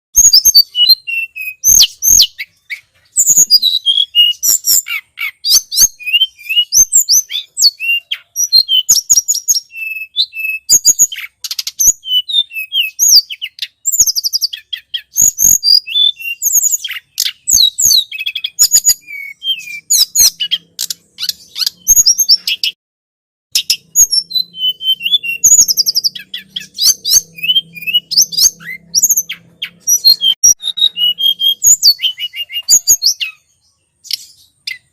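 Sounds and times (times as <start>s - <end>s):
songbird chirping and trilling: 0.2s - 22.8s, 23.5s - 34.9s.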